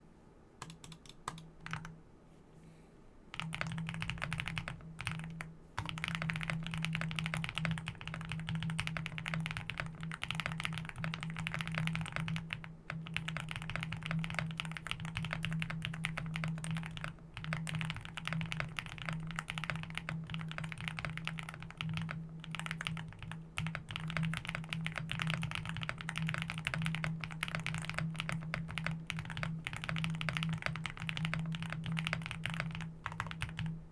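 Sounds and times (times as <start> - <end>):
mechanical keyboard typing: 0.6 - 2.0, 3.3 - 33.8.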